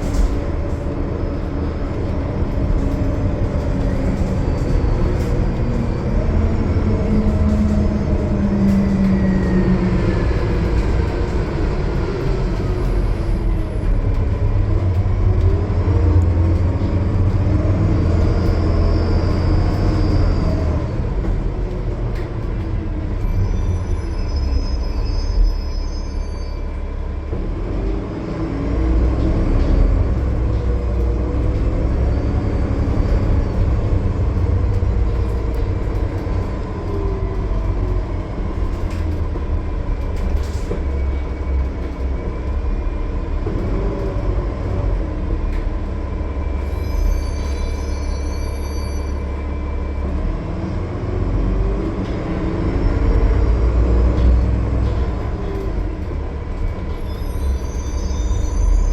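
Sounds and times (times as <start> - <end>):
bus engine droning with whine: 0.0 - 58.9.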